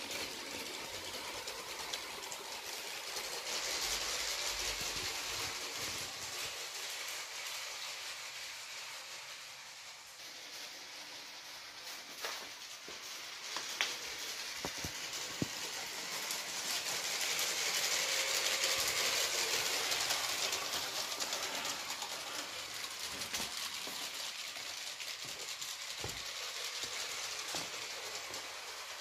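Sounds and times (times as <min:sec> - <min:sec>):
toy train whirring and rattling: 0:00.0 - 0:29.0.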